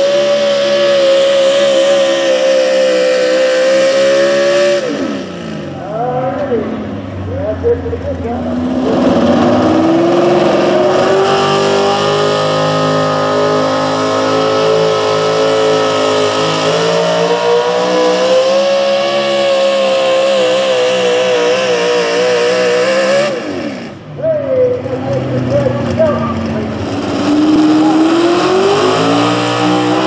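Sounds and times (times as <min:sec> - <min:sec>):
truck engine at full throttle: 0:00.0 - 0:30.0.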